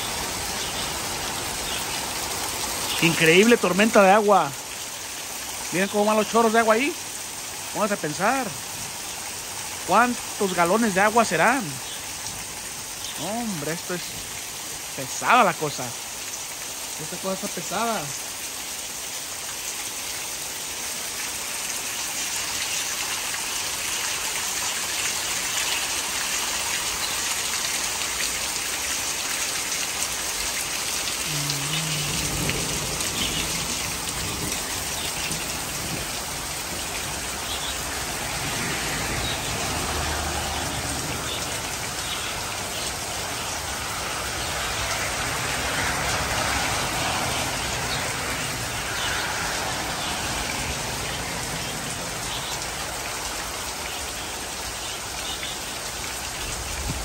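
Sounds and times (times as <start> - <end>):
heavy rain splashing: 0.0 - 57.0.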